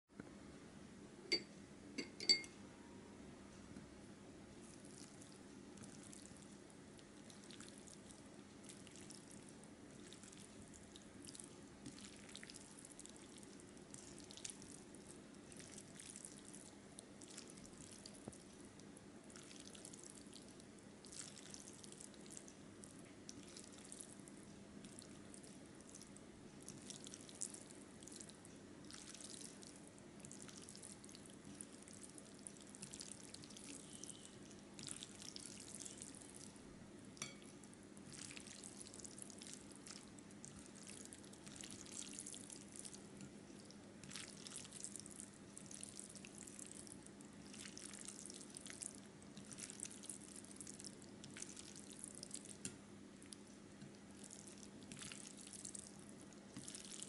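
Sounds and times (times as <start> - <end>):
low steady hum: 0.1 - 57.0
chopsticks stirring wet noodles: 4.6 - 18.6, 21.0 - 36.5, 37.2 - 57.0.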